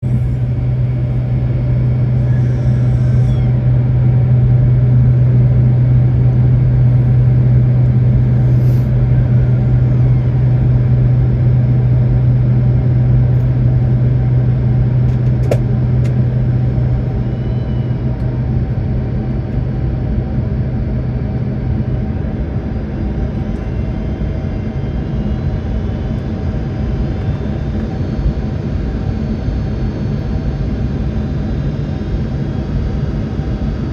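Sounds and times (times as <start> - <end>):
airliner cabin engine drone: 0.0 - 33.9
low hum: 0.0 - 33.9.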